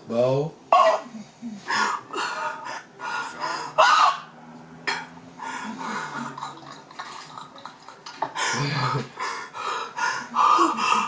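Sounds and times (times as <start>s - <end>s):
muffled overlapping voices: 0.0s - 11.0s.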